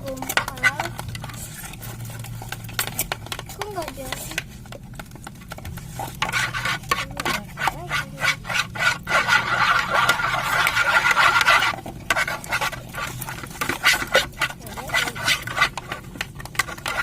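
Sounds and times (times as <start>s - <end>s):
spoon stirring sticky mixture: 0.0s - 17.0s.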